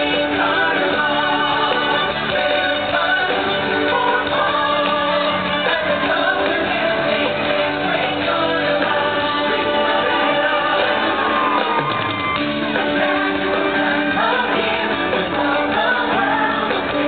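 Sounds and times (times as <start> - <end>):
upbeat show music with singing: 0.0 - 17.0.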